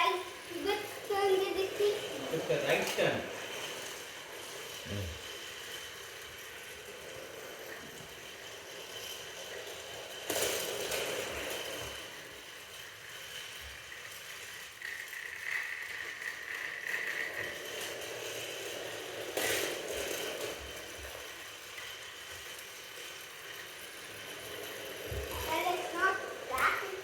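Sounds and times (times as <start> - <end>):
toy train motor rattling: 0.0 - 27.0.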